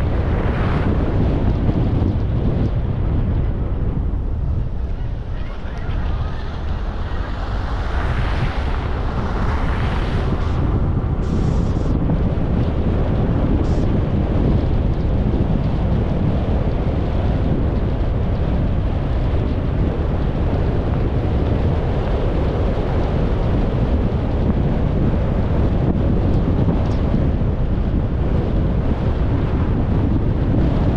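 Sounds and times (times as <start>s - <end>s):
car road noise rumble: 0.0s - 30.9s
wind buffeting microphone: 0.0s - 30.9s.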